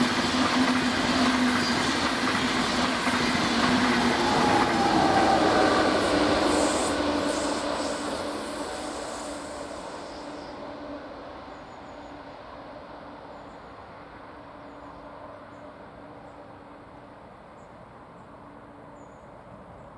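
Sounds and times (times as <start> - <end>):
high-speed train rolling: 0.0 - 18.9.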